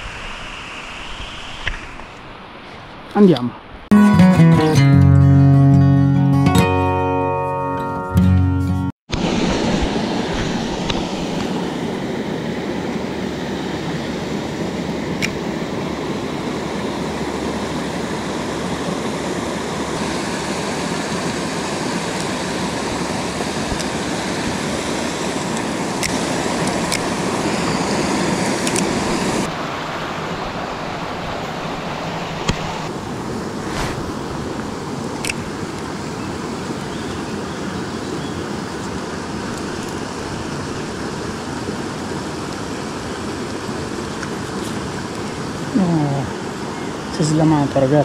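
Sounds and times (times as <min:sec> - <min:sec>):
stream water rushing: 0:09.1 - 0:48.0.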